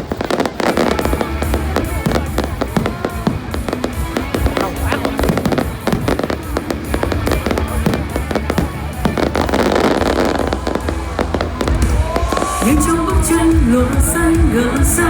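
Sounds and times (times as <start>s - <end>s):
fireworks crackle: 0.0s - 14.5s
fireworks bangs: 0.0s - 15.0s.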